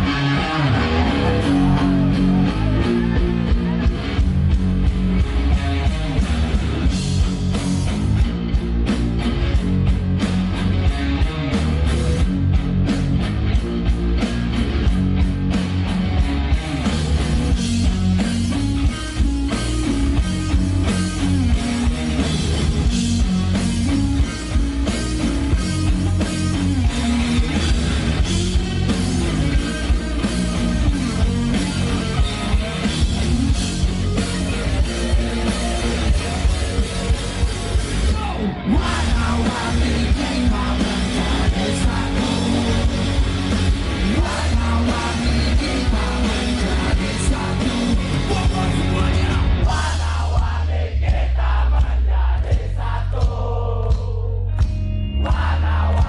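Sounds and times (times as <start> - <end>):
electric guitars: 0.0 - 50.5, 54.2 - 56.0
drum kit: 0.0 - 56.0.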